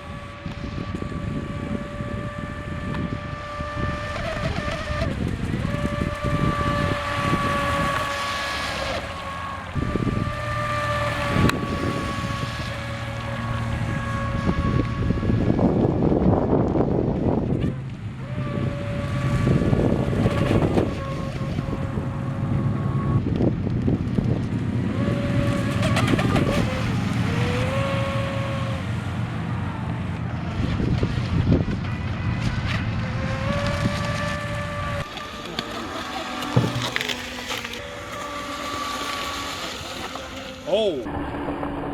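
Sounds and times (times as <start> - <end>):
wind buffeting microphone: 0.0 - 40.3
electric motor whining: 0.0 - 41.9.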